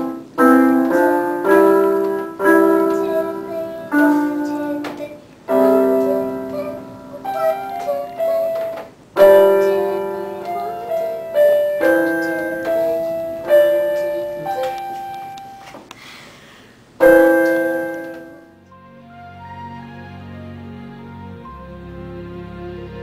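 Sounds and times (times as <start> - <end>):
digital piano played slowly: 0.0 - 15.9, 17.0 - 23.0
quiet background music: 0.0 - 15.9, 17.0 - 23.0.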